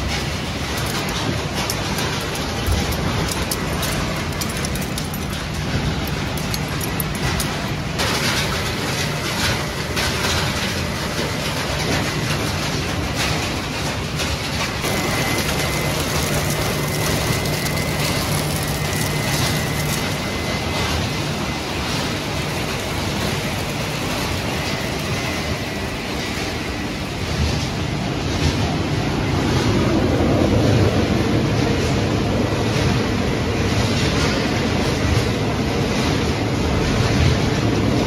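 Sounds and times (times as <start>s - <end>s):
constant low hum: 0.0s - 38.0s
industrial shredding machinery: 0.0s - 38.0s.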